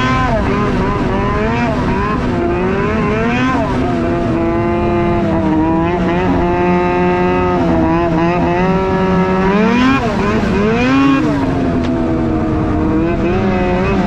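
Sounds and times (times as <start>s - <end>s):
snowmobile engine under throttle: 0.0s - 14.0s.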